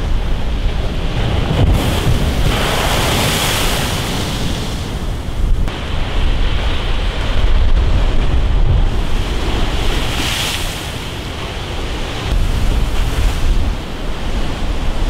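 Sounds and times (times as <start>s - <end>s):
wind buffeting microphone: 0.0s - 15.0s
surf breaking against a seawall: 0.1s - 15.0s.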